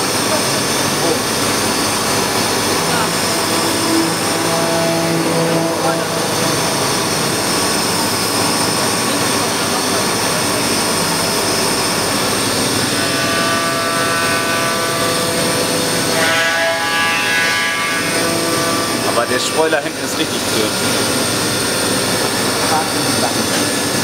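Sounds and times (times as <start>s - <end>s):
high machining whine: 0.0s - 24.0s
milling machine cutting wood: 0.0s - 24.0s.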